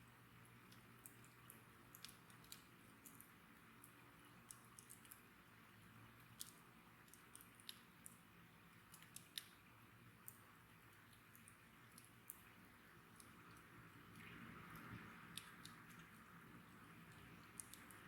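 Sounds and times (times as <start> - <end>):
soft steady hiss: 0.0 - 18.0.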